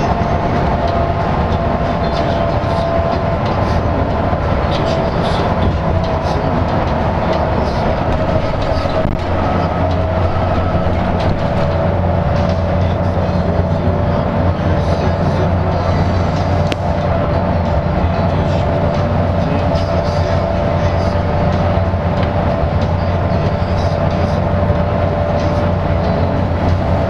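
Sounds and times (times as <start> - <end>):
bus engine and road drone: 0.0 - 27.0
steady whine: 0.0 - 27.0.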